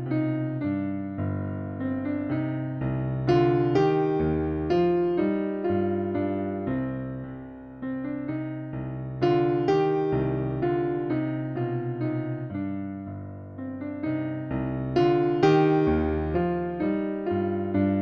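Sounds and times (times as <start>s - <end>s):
solo piano piece: 0.0s - 18.0s.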